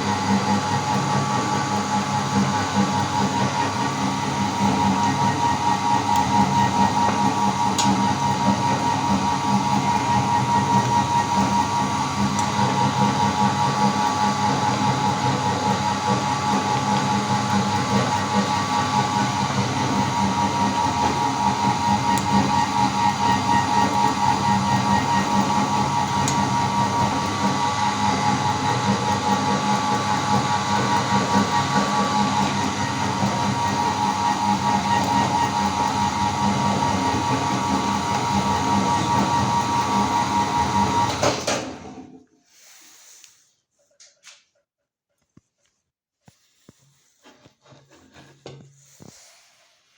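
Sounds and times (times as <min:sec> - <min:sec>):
electric meat grinder motor hum: 0:00.0 - 0:42.2.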